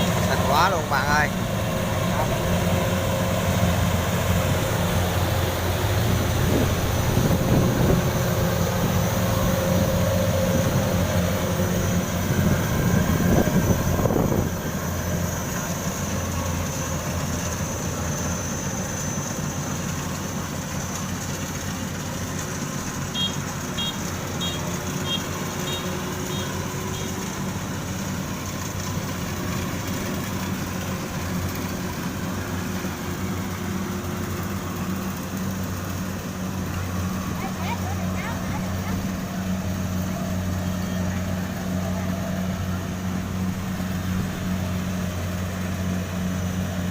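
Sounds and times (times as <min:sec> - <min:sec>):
combine harvester engine hum: 0:00.0 - 0:46.9.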